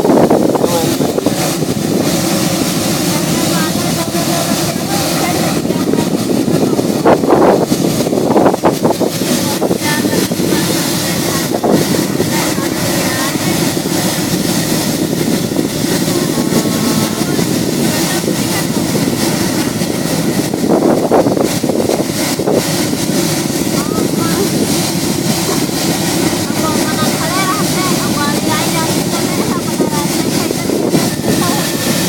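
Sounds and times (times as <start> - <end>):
diesel locomotive engine running: 0.0 - 32.0.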